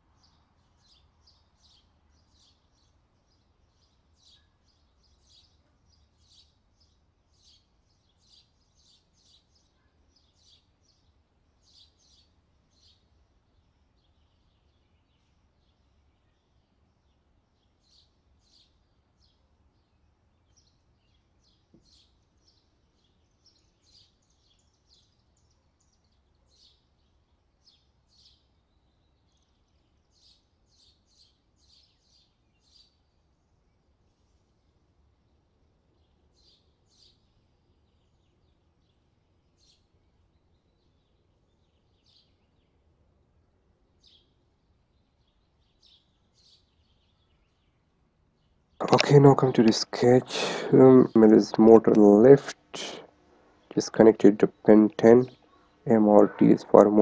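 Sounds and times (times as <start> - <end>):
faint bird chirps: 0.0 - 42.9, 43.9 - 52.6.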